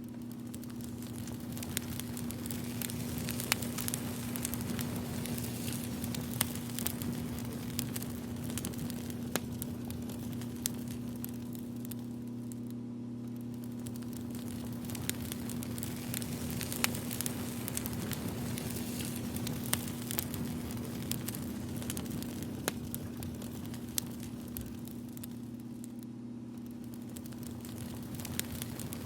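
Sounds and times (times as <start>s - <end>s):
fire crackling and popping: 0.0s - 29.0s
steady low hum: 0.0s - 29.0s.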